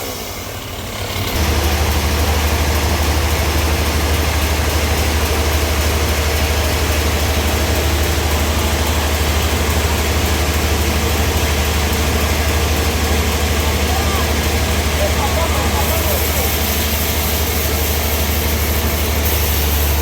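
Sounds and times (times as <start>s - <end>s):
sawmill engine droning: 0.0s - 20.0s.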